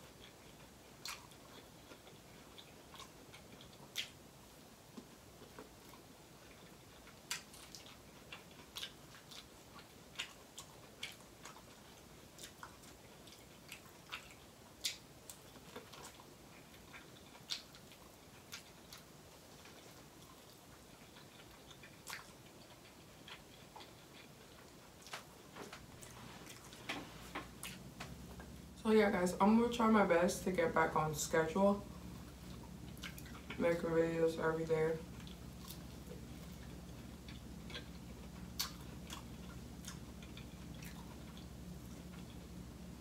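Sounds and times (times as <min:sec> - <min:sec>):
person chewing corn on the cob: 0:00.0 - 0:28.6, 0:31.9 - 0:33.6, 0:35.0 - 0:43.0.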